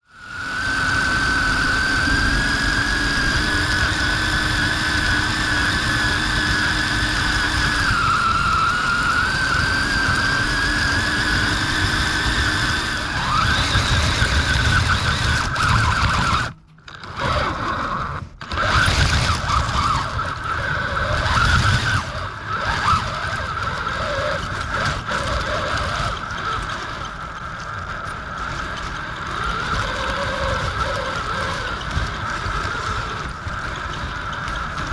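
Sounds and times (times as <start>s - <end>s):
rc car motor whining: 0.0s - 34.9s
tyres rumbling through snow: 0.3s - 34.9s.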